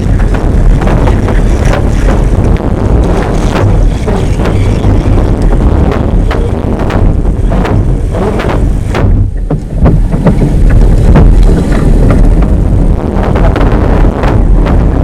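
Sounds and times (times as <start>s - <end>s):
knocks and crackles: 0.0s - 15.0s
wind buffeting microphone: 0.0s - 15.0s.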